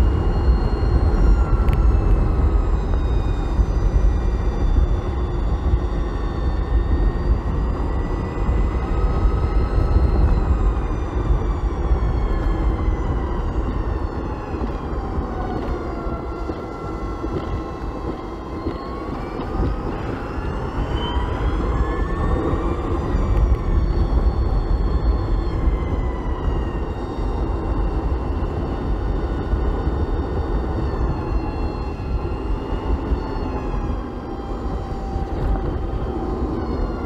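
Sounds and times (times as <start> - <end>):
electric motor whining: 0.0 - 37.0
wind rumble on microphone: 0.0 - 37.0.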